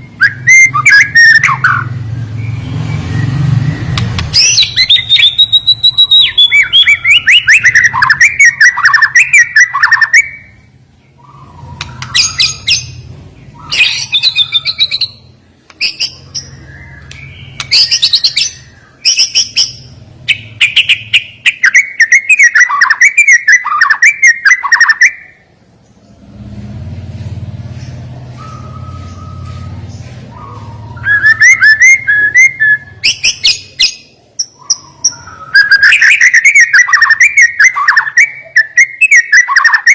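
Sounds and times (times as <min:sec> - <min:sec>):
bird singing rapid whistles and trills: 0:00.0 - 0:25.5, 0:27.6 - 0:39.9.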